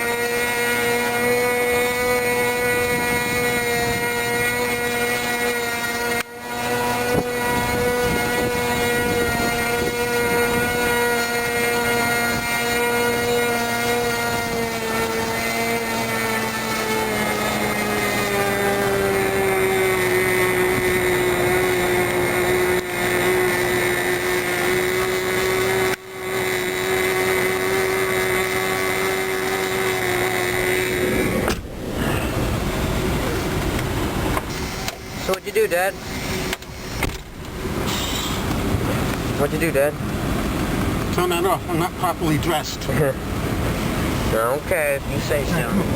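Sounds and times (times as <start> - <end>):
model airplane engine whine: 0.0 - 45.9.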